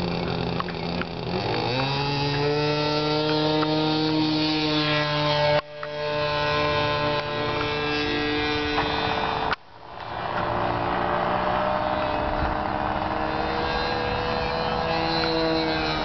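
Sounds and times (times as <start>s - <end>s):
model plane engine buzzing: 0.0s - 16.0s.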